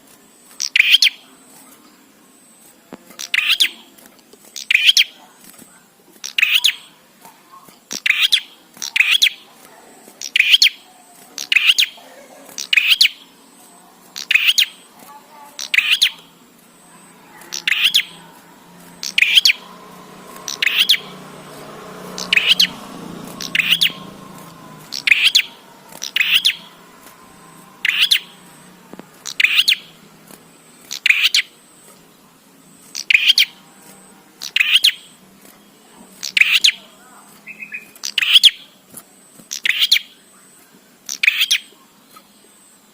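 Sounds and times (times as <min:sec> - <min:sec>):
songbird high chirps: 0:00.6 - 0:02.1, 0:03.2 - 0:03.9, 0:04.5 - 0:05.2, 0:06.2 - 0:09.5, 0:10.2 - 0:30.0, 0:30.6 - 0:32.0, 0:32.8 - 0:33.6, 0:34.4 - 0:38.8, 0:39.5 - 0:42.9.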